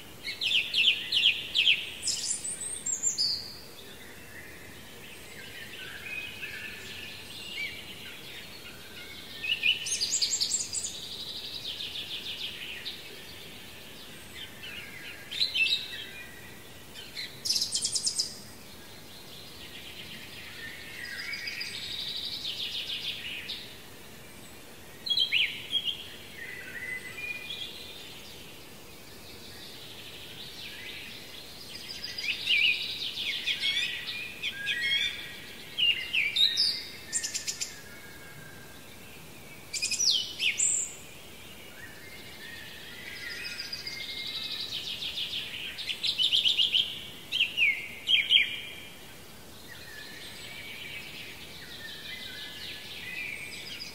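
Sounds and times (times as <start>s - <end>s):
songbirds trilling: 0.1s - 53.9s.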